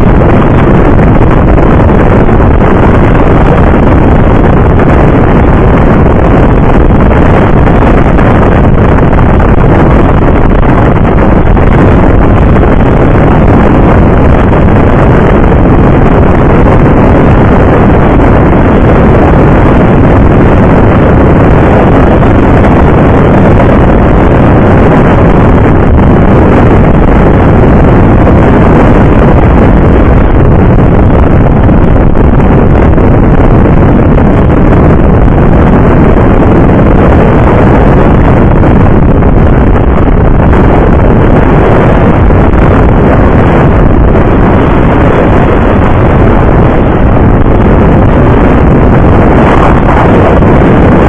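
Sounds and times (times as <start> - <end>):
wind rushing on microphone: 0.0 - 51.0.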